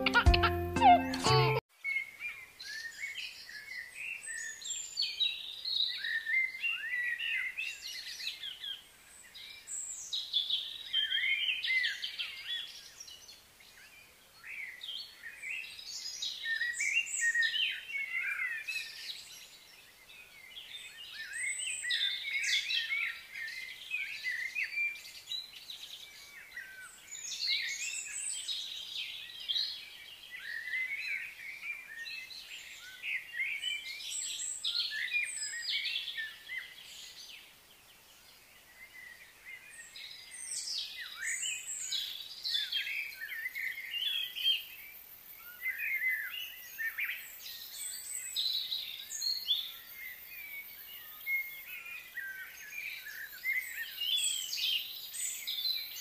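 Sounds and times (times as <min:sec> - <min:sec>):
small birds chirping chorus: 0:01.7 - 0:56.0.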